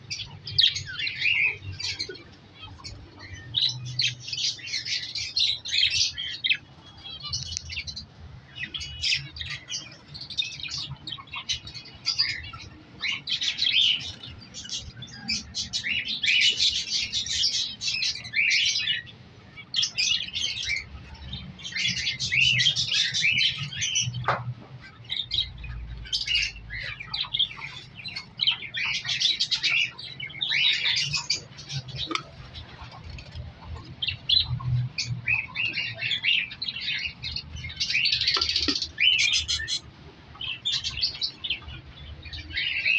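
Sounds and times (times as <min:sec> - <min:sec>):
budgerigars chirping: 0:00.0 - 0:42.9.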